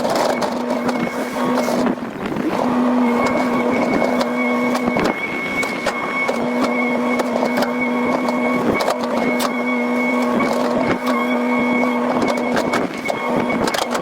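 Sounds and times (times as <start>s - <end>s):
excavator whine: 0.0s - 14.0s.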